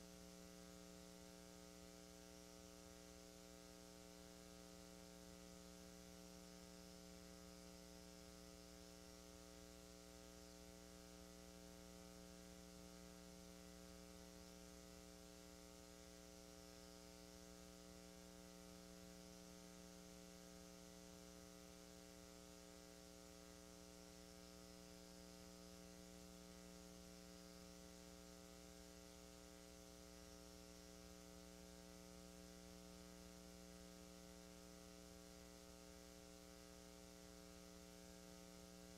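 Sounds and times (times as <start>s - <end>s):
faint electrical hum: 0.0s - 38.9s.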